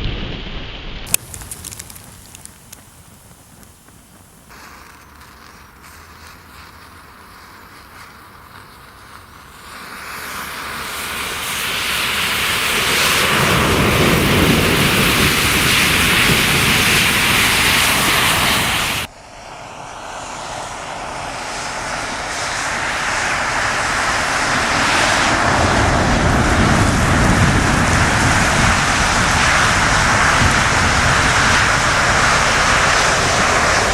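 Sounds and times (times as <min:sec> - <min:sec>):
matches flaring with rushing roar: 0:01.1 - 0:33.9.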